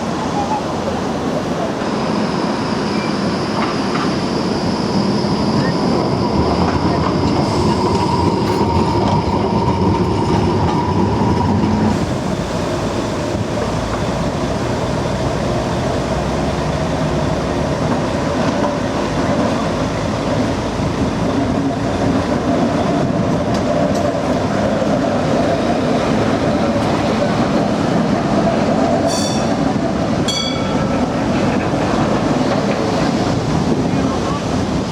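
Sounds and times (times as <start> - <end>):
train running on track: 0.0 - 34.9.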